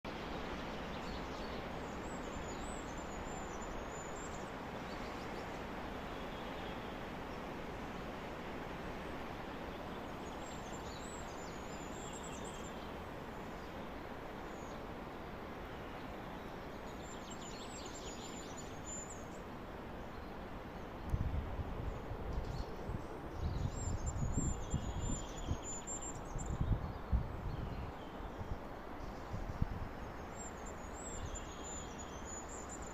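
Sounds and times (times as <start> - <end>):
wind through trees: 0.0 - 32.9.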